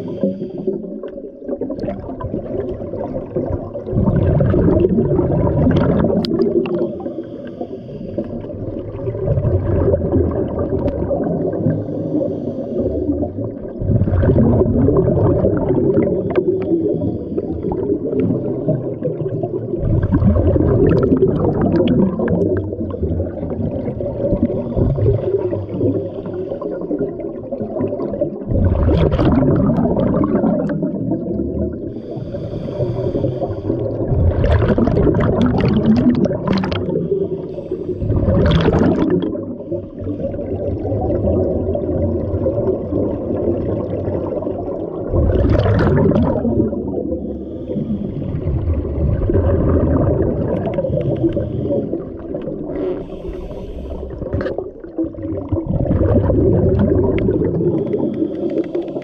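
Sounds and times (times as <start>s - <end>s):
exhaled bubbles from regulator: 0.0s - 59.0s
muffled underwater rumble: 0.0s - 59.0s.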